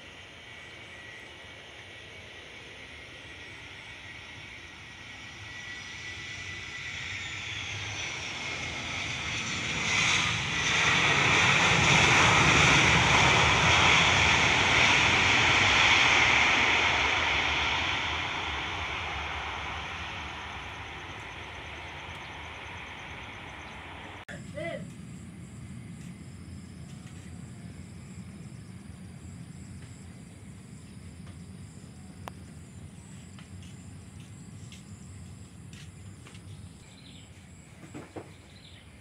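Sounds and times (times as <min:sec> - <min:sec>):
jet airliner passing: 0:00.0 - 0:39.0.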